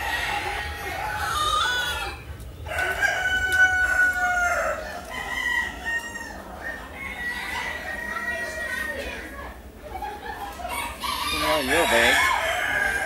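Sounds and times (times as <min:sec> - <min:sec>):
rooster crowing: 0:00.0 - 0:09.0, 0:10.7 - 0:13.0.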